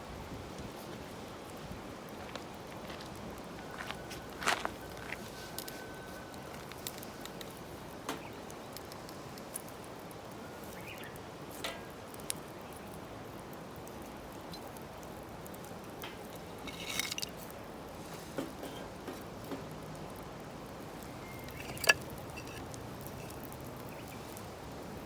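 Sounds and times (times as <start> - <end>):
bonfire crackling and popping: 0.1 - 25.0.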